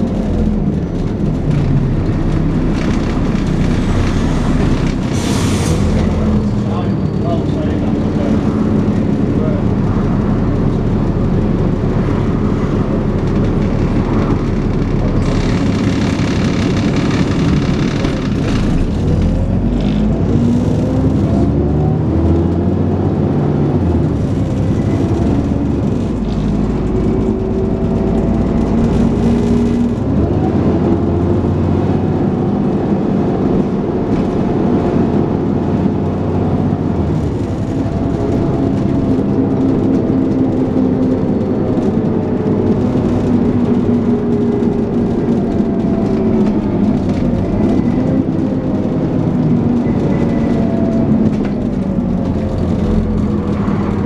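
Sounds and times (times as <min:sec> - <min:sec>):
bus engine working hard: 0:00.0 - 0:54.0.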